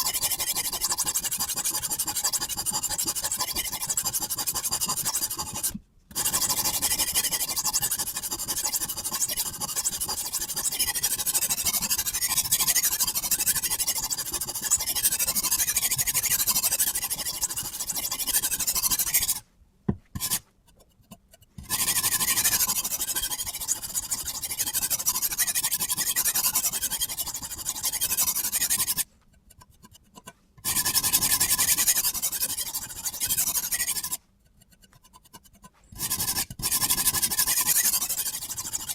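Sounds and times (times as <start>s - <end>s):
sharpening stone rasping on knife: 0.0s - 19.4s, 20.2s - 38.9s.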